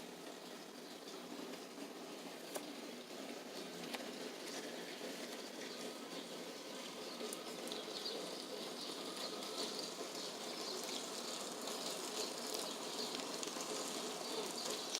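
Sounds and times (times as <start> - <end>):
steady rain falling: 0.0 - 14.9
light drips ticking: 0.2 - 14.9.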